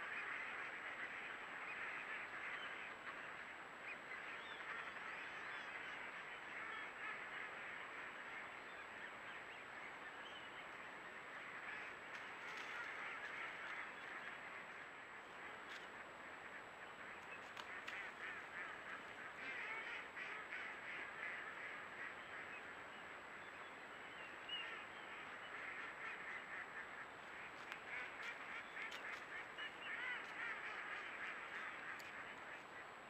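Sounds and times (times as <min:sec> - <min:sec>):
flock of ducks calling: 0:00.0 - 0:33.0.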